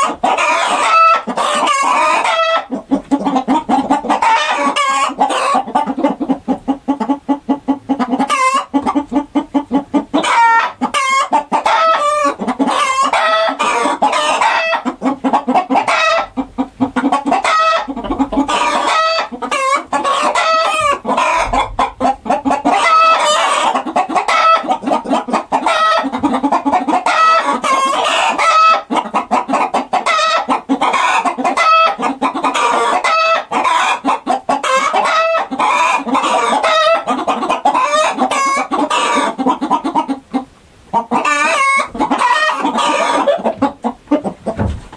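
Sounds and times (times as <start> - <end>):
chickens clucking and squawking: 0.0 - 44.9.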